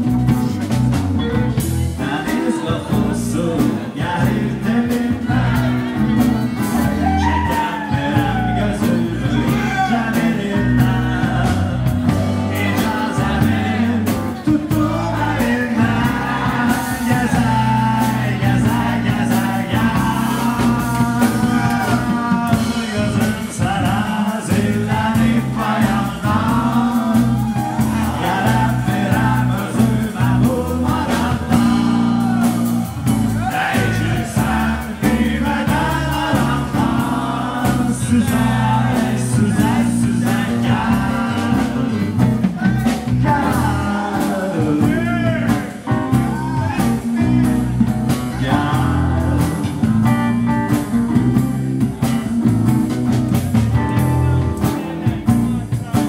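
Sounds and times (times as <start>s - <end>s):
singer with jazz trio: 0.0s - 56.0s.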